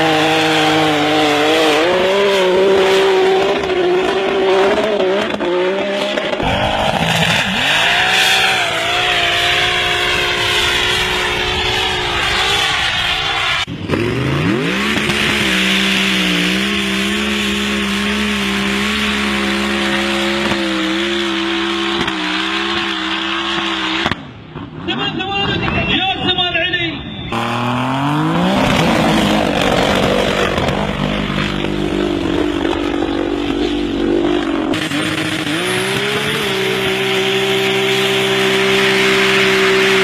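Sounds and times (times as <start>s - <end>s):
engine revving at high revs: 0.0s - 24.2s, 27.3s - 40.0s.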